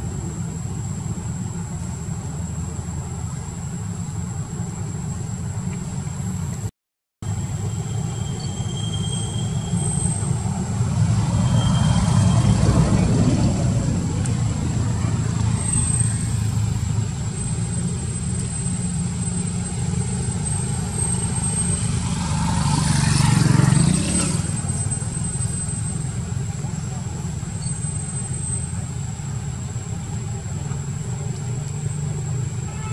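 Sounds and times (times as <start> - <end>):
traffic rumble: 0.0 - 32.9.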